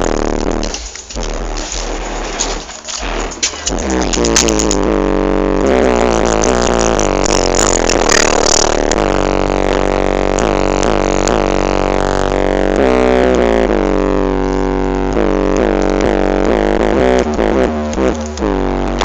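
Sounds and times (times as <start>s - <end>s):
loud music with deep bass: 0.0s - 19.0s.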